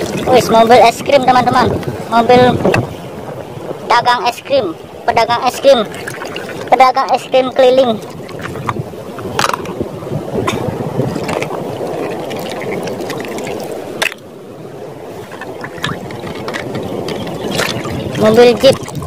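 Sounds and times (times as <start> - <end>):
shallow water sloshing and splashing: 0.0 - 3.9, 4.8 - 19.0.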